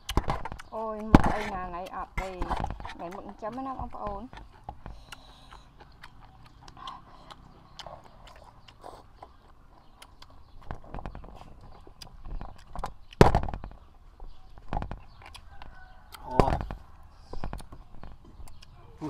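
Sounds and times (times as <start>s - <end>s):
chewing and lip smacks: 0.0s - 1.0s, 1.8s - 18.8s.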